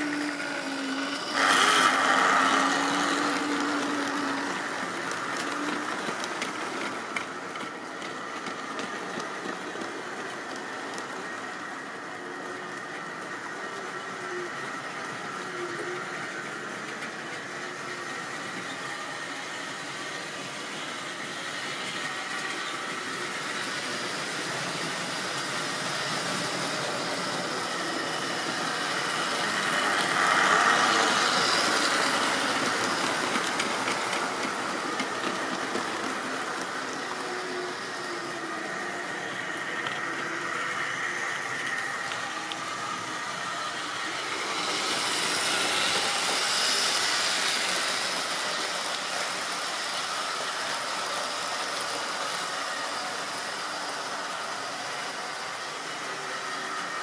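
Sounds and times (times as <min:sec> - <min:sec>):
model train running on track: 0:00.0 - 0:57.0.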